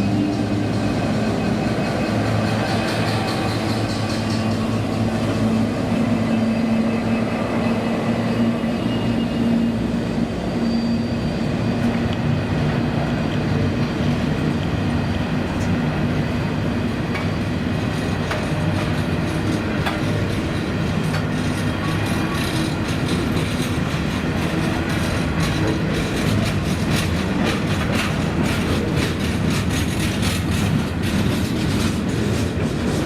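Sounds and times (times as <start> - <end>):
locomotive engine drone: 0.0 - 33.0
train wheels clicking over rail joints: 0.1 - 9.0, 11.8 - 33.0.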